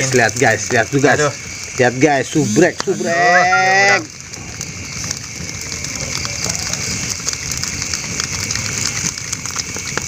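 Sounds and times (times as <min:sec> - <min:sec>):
fish sizzling on grill: 0:00.0 - 0:10.0
wood fire crackling: 0:00.0 - 0:10.0.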